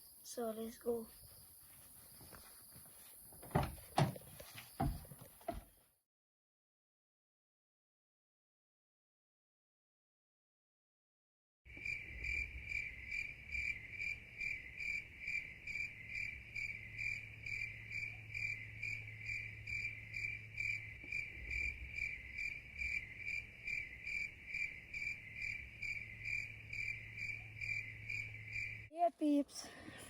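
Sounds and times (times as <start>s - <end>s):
insects chirping: 0.0s - 5.8s, 11.7s - 30.0s.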